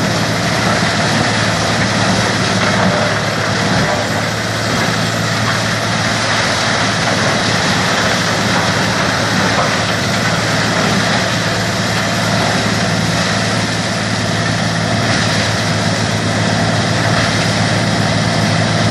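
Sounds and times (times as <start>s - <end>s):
grinder machine running: 0.0s - 18.9s.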